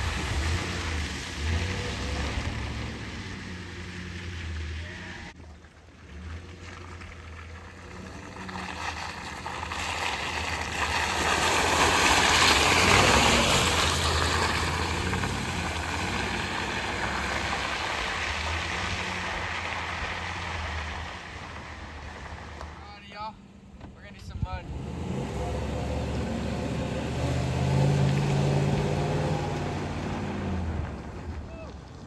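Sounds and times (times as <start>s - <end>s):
tyres churning mud and water: 0.0s - 23.1s, 24.0s - 32.0s.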